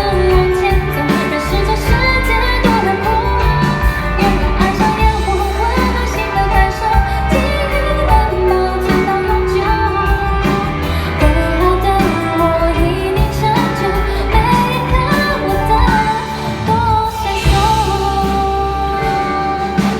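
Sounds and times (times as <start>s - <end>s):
band with bass and drums: 0.0s - 19.9s
woman singing: 0.0s - 19.9s.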